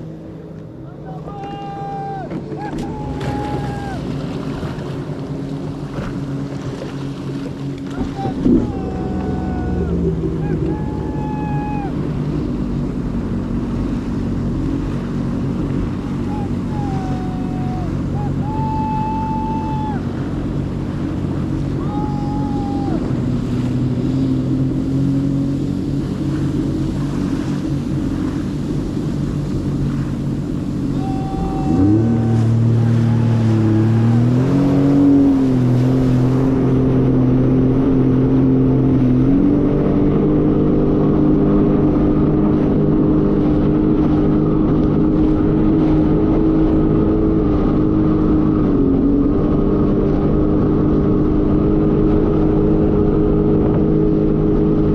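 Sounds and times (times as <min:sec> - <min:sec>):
jet ski engine running: 0:00.0 - 0:54.9.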